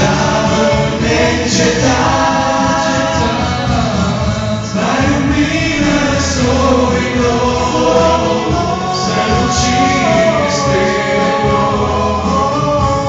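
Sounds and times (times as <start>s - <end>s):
male vocal quartet singing in harmony: 0.0s - 13.0s.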